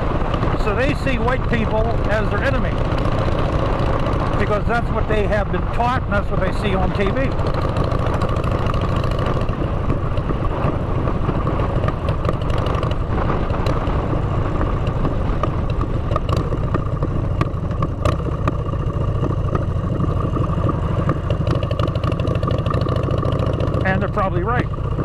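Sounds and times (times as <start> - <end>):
motorcycle engine drone: 0.0 - 25.0.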